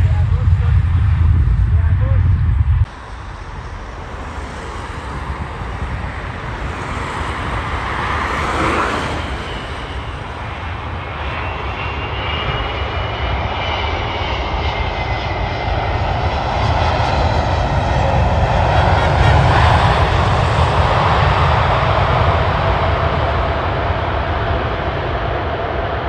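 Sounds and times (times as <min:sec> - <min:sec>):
jet engines rumbling: 0:00.0 - 0:26.0
turbofan whine: 0:00.0 - 0:26.0.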